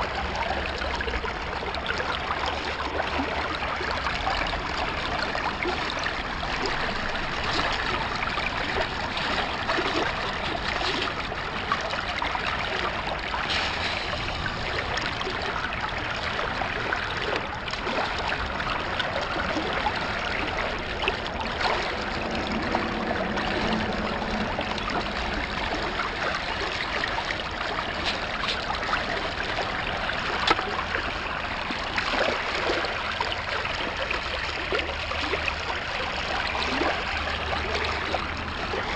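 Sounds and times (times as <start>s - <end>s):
water rushing and gurgling: 0.0s - 38.9s.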